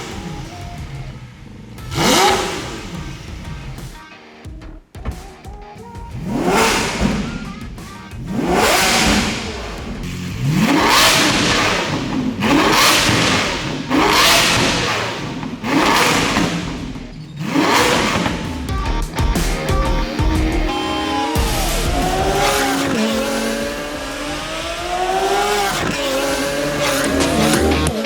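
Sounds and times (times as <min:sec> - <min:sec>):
supercar engine revving: 0:00.0 - 0:04.0, 0:06.1 - 0:28.0.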